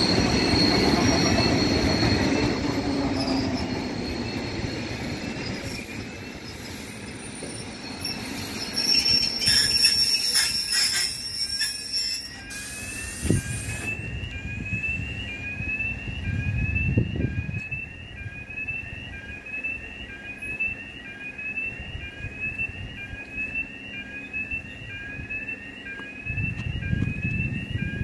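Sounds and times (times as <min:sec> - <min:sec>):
electric train humming: 0:00.0 - 0:28.0
two-tone electronic warning chirps: 0:00.0 - 0:28.0.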